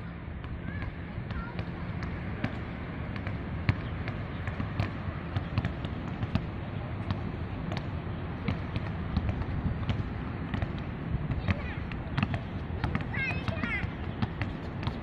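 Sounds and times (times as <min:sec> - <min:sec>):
basketballs bouncing on court: 0:00.4 - 0:15.0.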